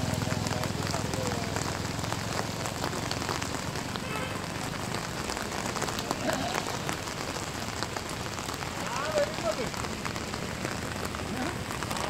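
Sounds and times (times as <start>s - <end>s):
rain falling on water: 0.0s - 12.0s.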